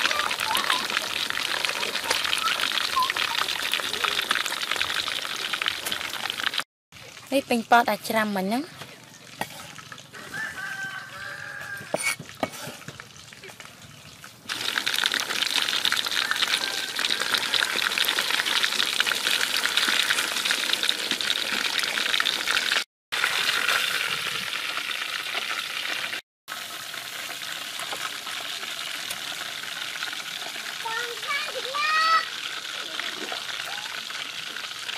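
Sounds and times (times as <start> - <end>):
fish deep-frying sizzle: 0.0 - 34.9.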